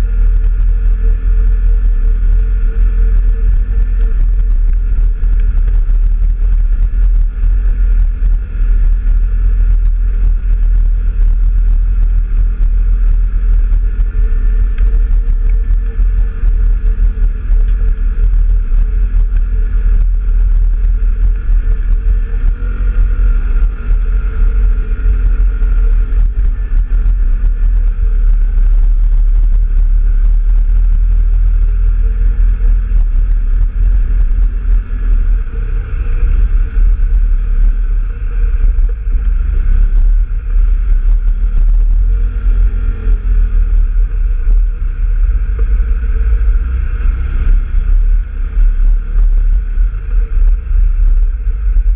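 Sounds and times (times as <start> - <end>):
off-road vehicle engine rumbling: 0.0 - 51.9.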